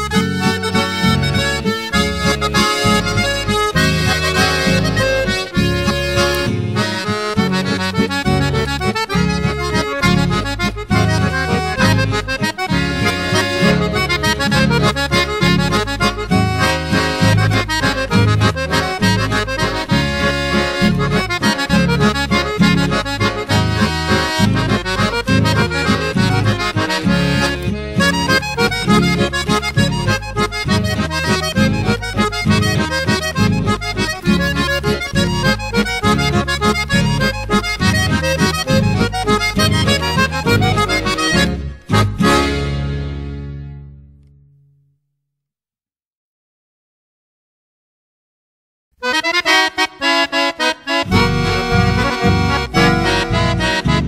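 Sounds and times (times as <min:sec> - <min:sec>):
accordion folk music: 0:00.0 - 0:44.8, 0:49.0 - 0:54.0.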